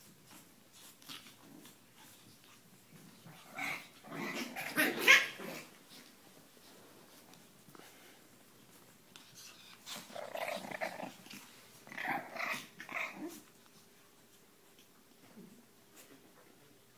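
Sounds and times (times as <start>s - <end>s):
puppies growling in play: 0.0s - 16.9s.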